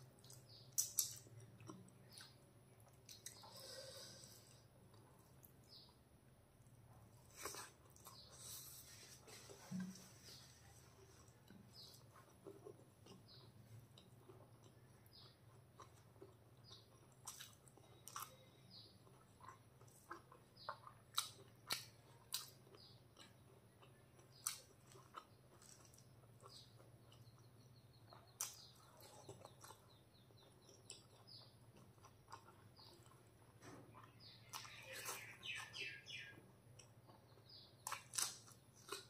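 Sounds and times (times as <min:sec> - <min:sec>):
person chewing: 0:00.0 - 0:05.9, 0:06.6 - 0:39.0.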